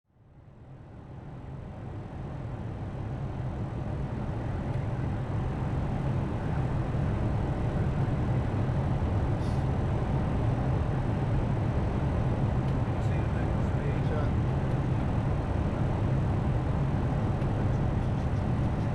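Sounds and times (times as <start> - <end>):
low rushing noise in cockpit: 0.2 - 18.9.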